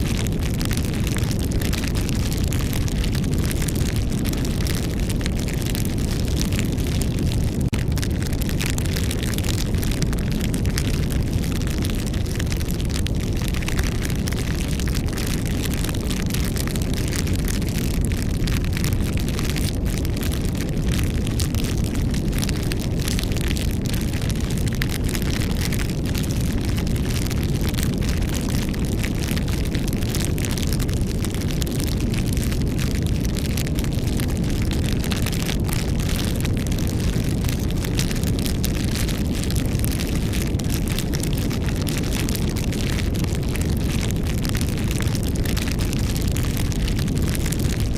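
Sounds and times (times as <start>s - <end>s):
low rumble of flames: 0.0s - 47.9s
wood crackling and popping: 0.0s - 47.9s.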